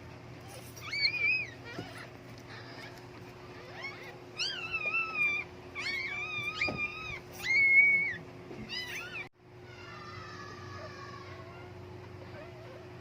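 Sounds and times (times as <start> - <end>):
dog whining: 0.4 - 13.0.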